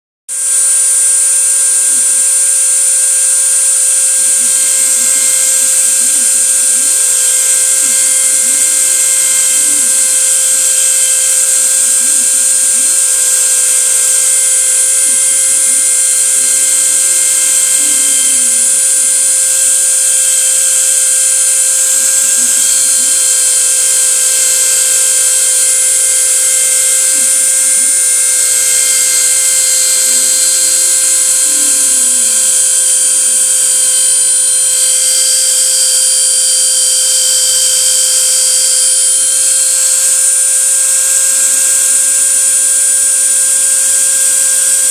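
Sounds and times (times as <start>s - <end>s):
motor tones gliding in pitch: 0.3s - 44.9s
router spindle whining: 0.3s - 44.9s.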